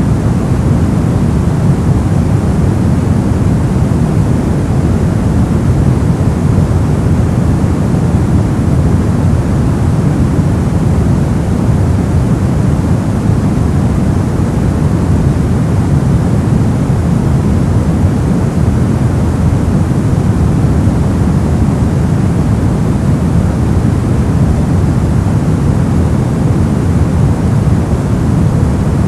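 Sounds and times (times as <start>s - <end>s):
brown noise: 0.0s - 29.0s.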